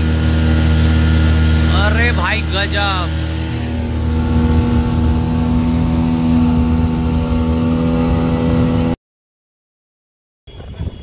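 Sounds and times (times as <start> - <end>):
speedboat engine running: 0.0 - 9.0.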